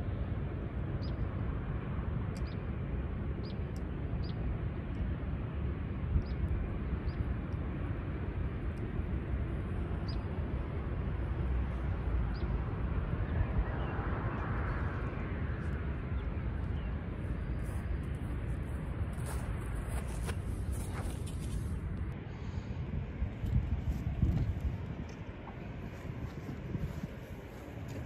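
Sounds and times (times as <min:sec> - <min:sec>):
low riverside rumble: 0:00.0 - 0:28.0.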